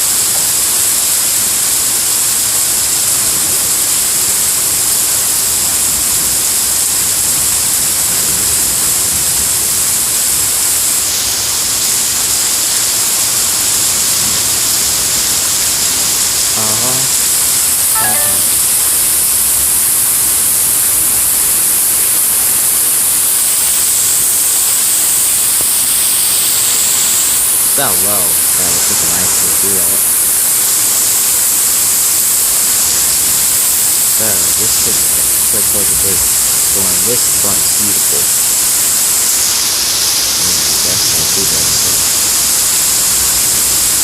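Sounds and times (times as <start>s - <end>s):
heavy rain hissing: 0.0s - 44.0s.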